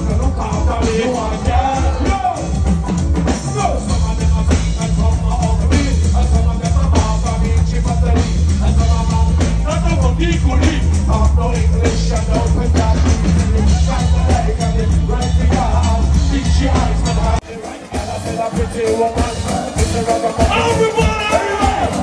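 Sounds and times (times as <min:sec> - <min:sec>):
heavy bass beat: 0:00.0 - 0:22.0
live music over loudspeakers: 0:00.0 - 0:22.0
man singing into a microphone: 0:00.0 - 0:22.0.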